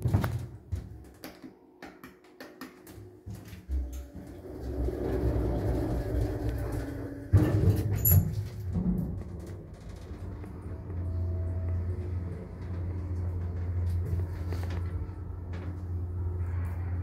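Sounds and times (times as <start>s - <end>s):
elevator ride hum: 3.0s - 17.0s.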